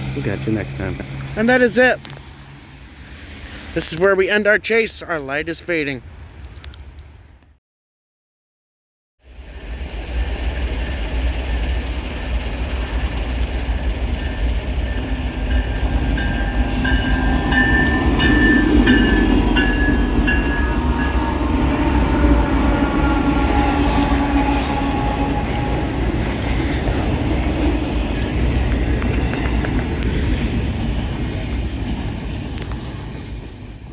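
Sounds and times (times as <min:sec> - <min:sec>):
freight train rumbling past: 0:00.0 - 0:06.4, 0:09.2 - 0:33.9.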